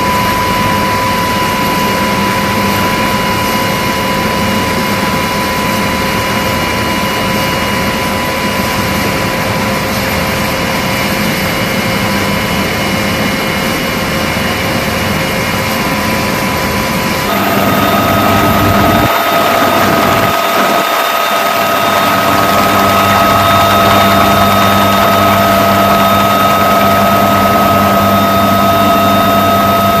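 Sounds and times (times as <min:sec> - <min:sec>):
helicopter engines and rotors: 0:00.0 - 0:30.0.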